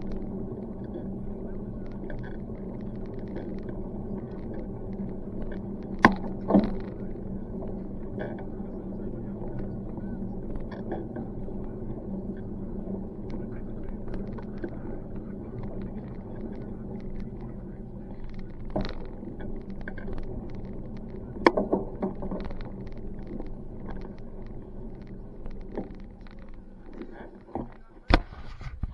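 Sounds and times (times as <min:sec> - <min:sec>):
bicycle rolling over pavement: 0:00.0 - 0:28.9
faint steady hum: 0:00.0 - 0:28.9.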